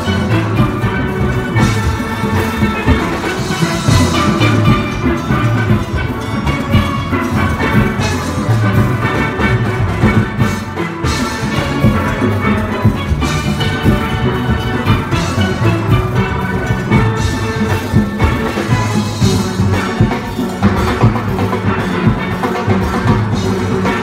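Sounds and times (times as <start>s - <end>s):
steel pan melody: 0.0s - 24.0s.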